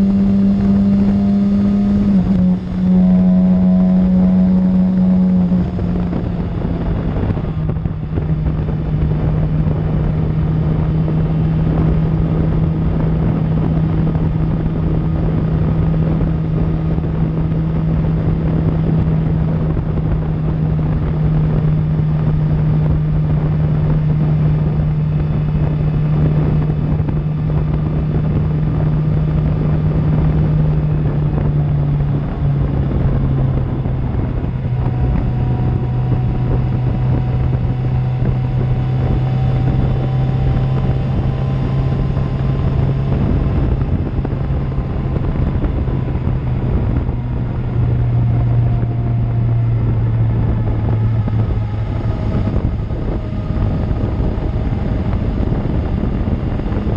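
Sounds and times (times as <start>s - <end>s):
motorcycle engine cruising: 0.0s - 56.9s
wind noise on microphone: 0.0s - 56.9s.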